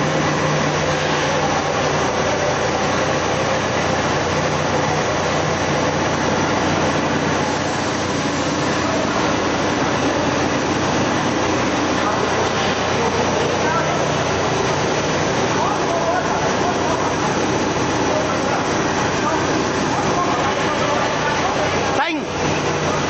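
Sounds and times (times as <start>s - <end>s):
paper machine running: 0.0s - 23.0s.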